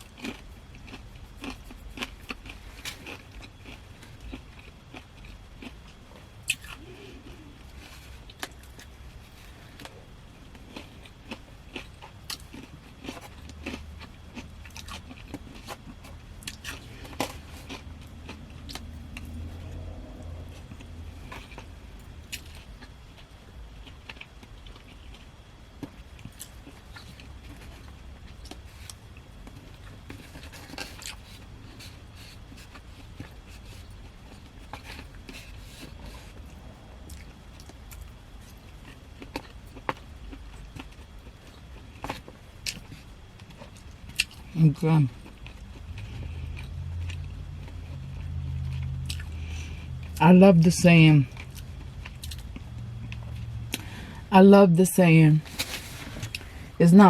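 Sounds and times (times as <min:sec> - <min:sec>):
person chewing food: 0:00.0 - 0:50.2, 0:51.3 - 0:54.3
low steady hum: 0:00.0 - 0:57.0.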